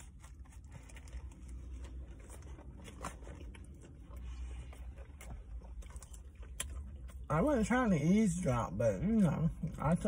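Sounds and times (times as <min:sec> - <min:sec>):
low steady hum: 0:00.0 - 0:10.0
person chewing a sandwich: 0:00.0 - 0:10.0.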